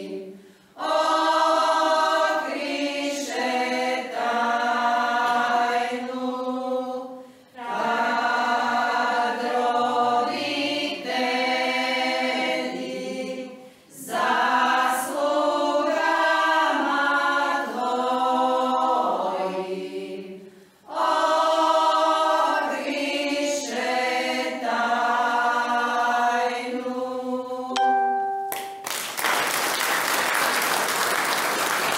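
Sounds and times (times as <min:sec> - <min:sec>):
women's choir singing a cappella: 0:00.0 - 0:28.0.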